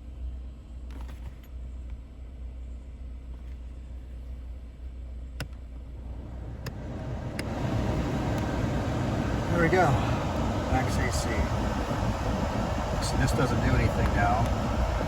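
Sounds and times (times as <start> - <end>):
low hum in car cabin: 0.0 - 15.0.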